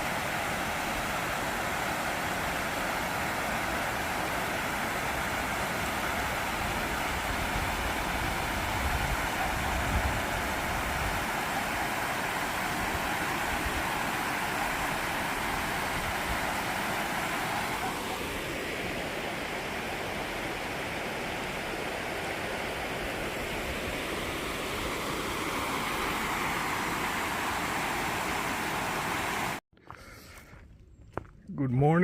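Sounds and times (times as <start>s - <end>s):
flowing water rushing: 0.0s - 29.6s.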